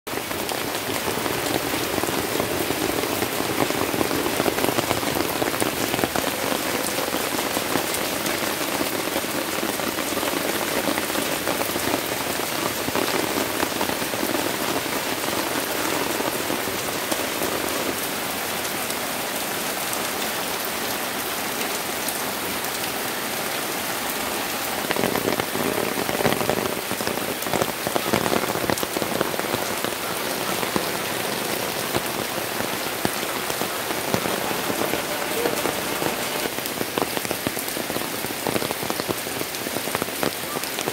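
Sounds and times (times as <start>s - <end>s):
rain falling on plants: 0.1s - 40.9s.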